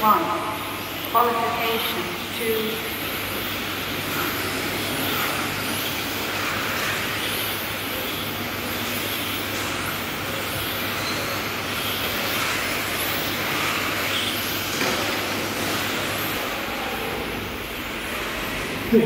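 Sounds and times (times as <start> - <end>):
steady running hiss: 0.0 - 19.0.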